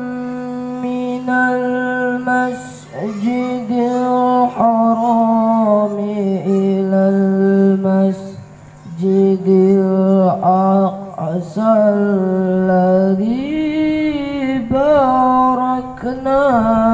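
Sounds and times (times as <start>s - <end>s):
boy chanting into a microphone: 0.0s - 16.9s.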